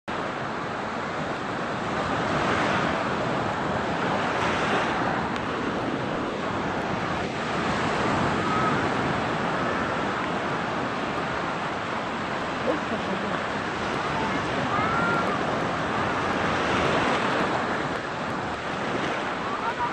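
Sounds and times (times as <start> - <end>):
sea waves washing onto beach: 0.1 - 19.9.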